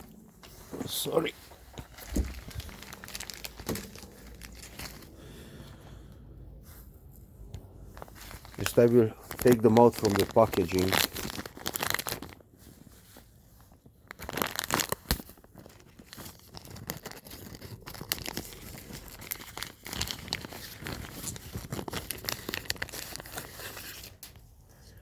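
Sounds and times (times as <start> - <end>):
packaging crinkling and tearing: 0.8 - 5.5, 7.9 - 24.4.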